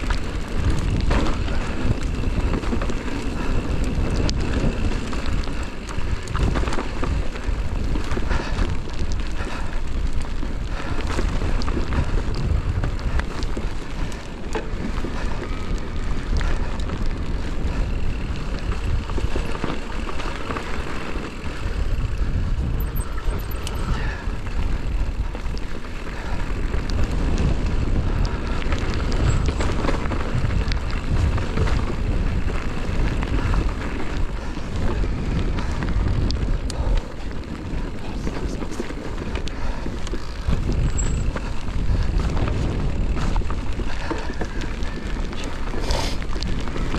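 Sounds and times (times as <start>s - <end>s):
bike rattling over rough trail: 0.0s - 46.9s
wind buffeting microphone: 0.0s - 46.9s.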